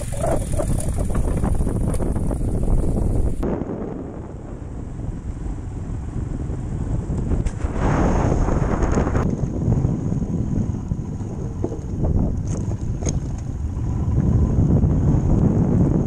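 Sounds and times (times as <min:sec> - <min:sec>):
motorcycle engine running: 0:00.0 - 0:07.5, 0:08.5 - 0:16.0
wind buffeting microphone: 0:00.0 - 0:16.0.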